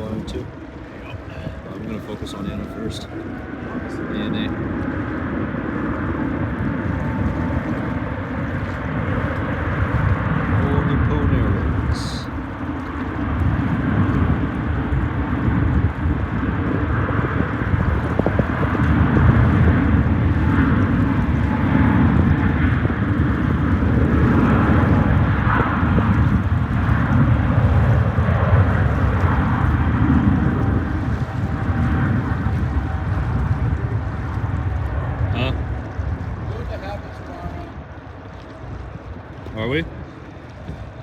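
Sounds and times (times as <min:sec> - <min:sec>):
jet engine rumble: 0:00.0 - 0:41.0.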